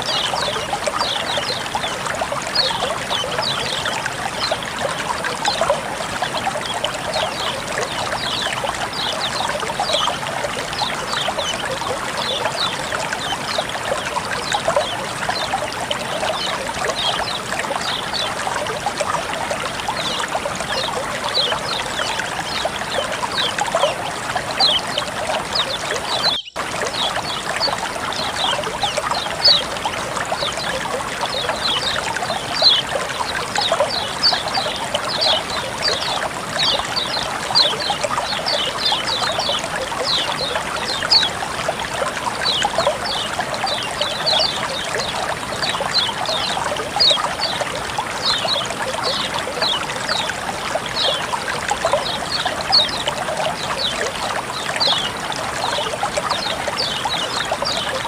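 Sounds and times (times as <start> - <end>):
water trickling with plinks: 0.0 - 58.0.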